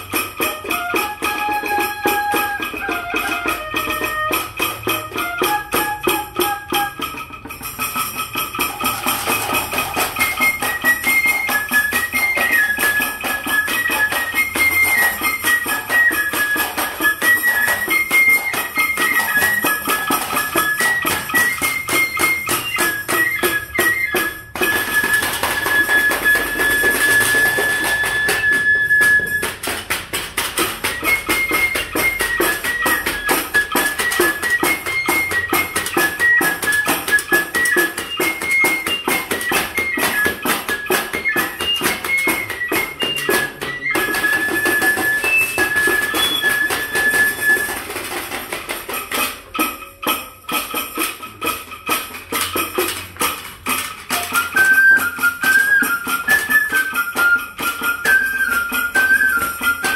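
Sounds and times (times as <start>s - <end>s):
bamboo flute melody: 0.0s - 59.9s
bamboo percussion clatter: 0.0s - 59.9s
foot-pedal cymbal: 0.0s - 59.9s.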